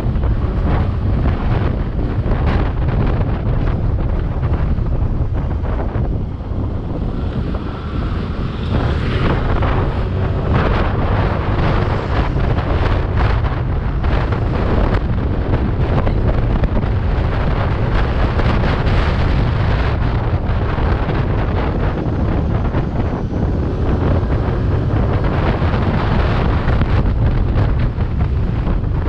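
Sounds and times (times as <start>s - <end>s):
road noise: 0.0s - 29.0s
wind buffeting microphone: 0.0s - 29.0s.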